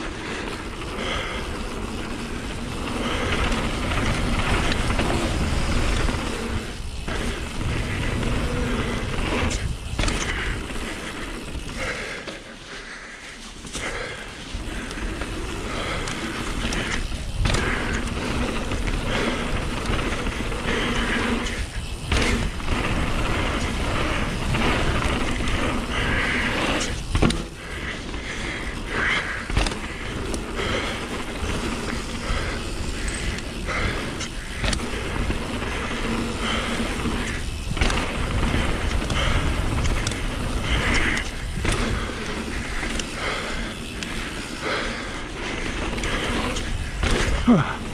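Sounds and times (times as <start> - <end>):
wind rushing over microphone: 0.0 - 11.8, 14.6 - 47.9
bike rattling: 0.0 - 47.9
bike tyres rumbling: 0.0 - 47.9.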